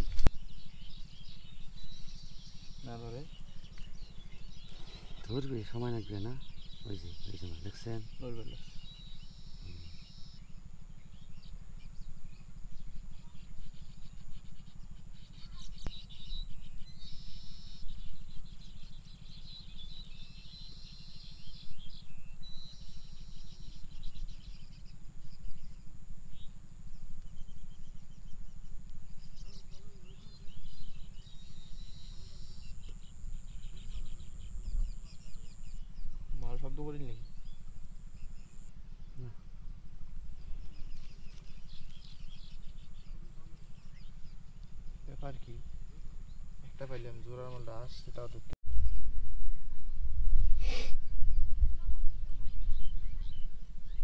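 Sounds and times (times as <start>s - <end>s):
birds chirping: 0.0s - 50.0s, 50.6s - 54.0s
faint high whine: 0.0s - 54.0s
low rumbling noise: 0.0s - 54.0s.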